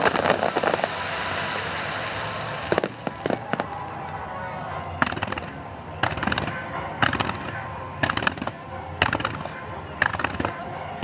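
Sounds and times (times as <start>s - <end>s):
sharp crackling bursts: 0.0s - 11.0s.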